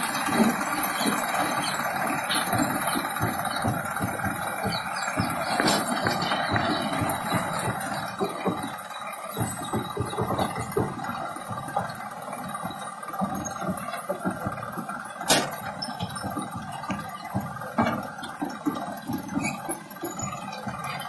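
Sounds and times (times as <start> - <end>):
diesel engine running: 0.0 - 21.0
metallic rattle of wagon: 0.0 - 21.0
sharp metallic clinks: 0.2 - 21.0.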